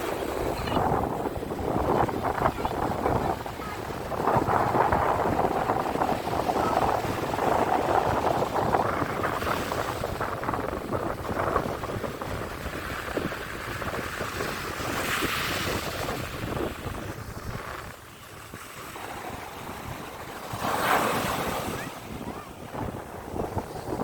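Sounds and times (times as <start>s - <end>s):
sea waves breaking on shore: 0.0s - 24.0s
wind buffeting microphone: 0.0s - 24.0s.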